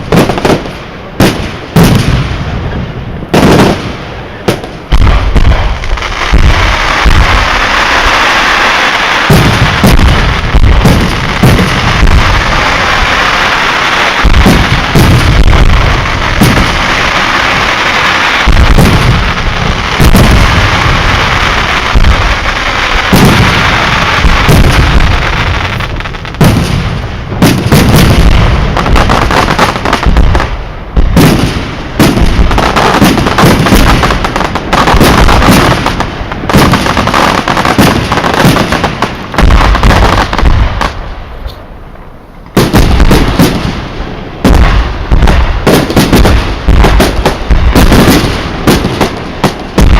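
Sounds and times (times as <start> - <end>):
fireworks bursts and crackling: 0.0 - 49.9.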